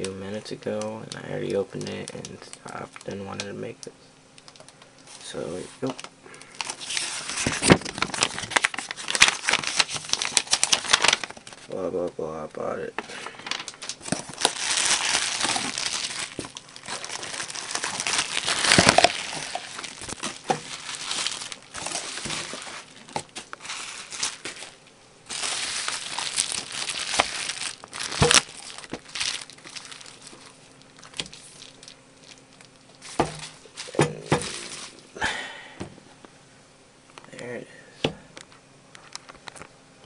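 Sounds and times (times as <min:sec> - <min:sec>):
plastic wrapping crinkling: 0:00.0 - 0:03.8, 0:04.5 - 0:11.8, 0:13.1 - 0:35.1.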